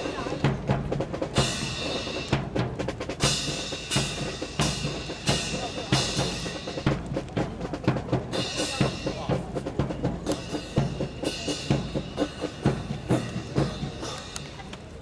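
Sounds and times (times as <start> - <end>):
snare and bass drum cadence: 0.0 - 15.0.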